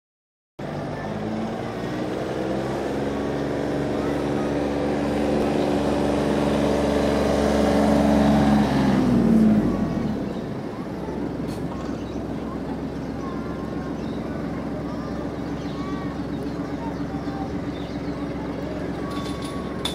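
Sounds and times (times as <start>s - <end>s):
vehicle engine passing: 0.6s - 19.9s.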